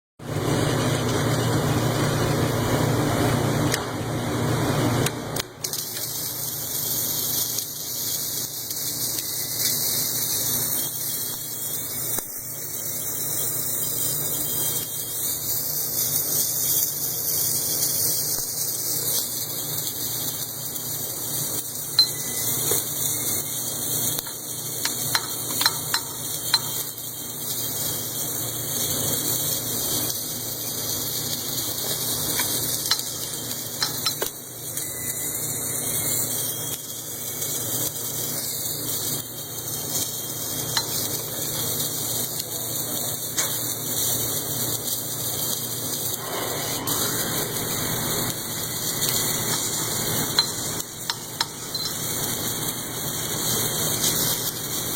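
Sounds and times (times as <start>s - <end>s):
machine hissing: 5.6s - 54.9s.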